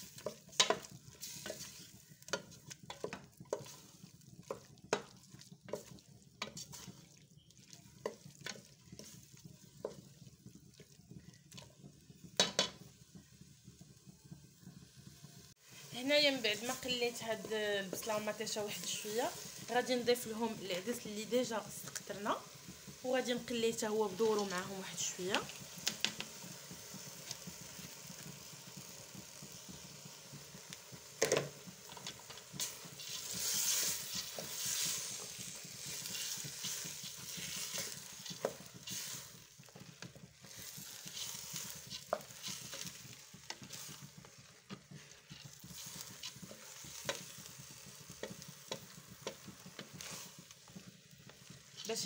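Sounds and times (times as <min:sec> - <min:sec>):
lentils sizzling in oil: 0:00.0 - 0:52.0.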